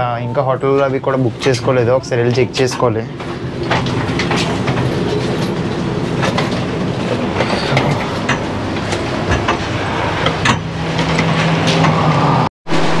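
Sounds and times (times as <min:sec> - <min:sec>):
train hum: 0:00.0 - 0:13.0
footsteps and luggage clatter: 0:00.6 - 0:12.3.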